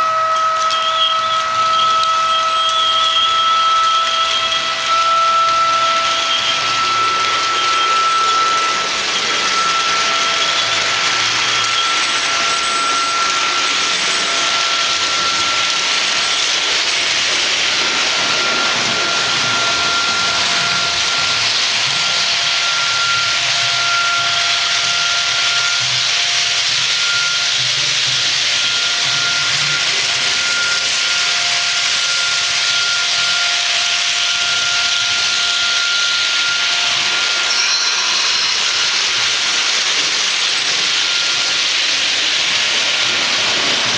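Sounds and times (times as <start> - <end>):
model train running on track: 0.0 - 43.9.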